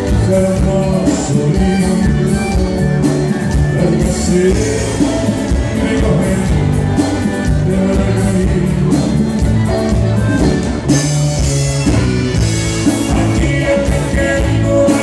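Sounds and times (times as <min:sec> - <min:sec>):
man singing into microphone: 0:00.0 - 0:09.7, 0:11.7 - 0:15.0
live band music: 0:00.0 - 0:15.0.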